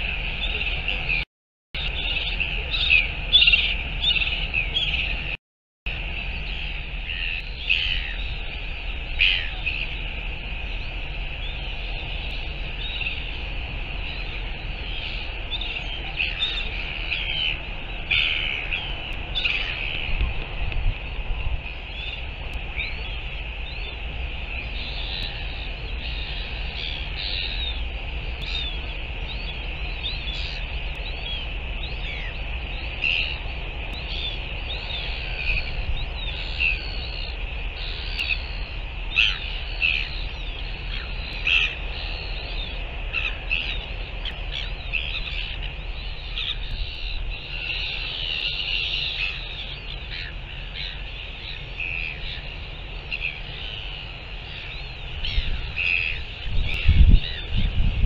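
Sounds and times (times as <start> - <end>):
seabirds squawking: 1.8 - 5.3, 6.4 - 10.8, 11.4 - 20.4, 21.1 - 58.0.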